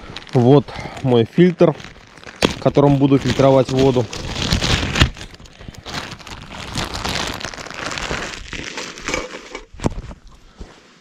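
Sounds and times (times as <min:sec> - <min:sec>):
crinkling crackling rustle: 0:00.0 - 0:11.0.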